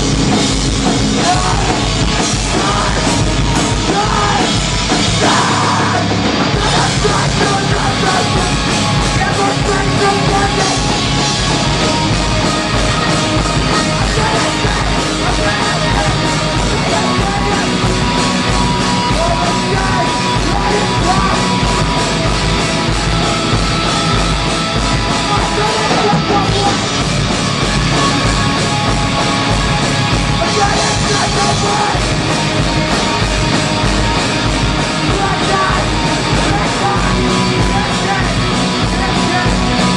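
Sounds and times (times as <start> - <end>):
hardcore band playing live: 0.0 - 39.9.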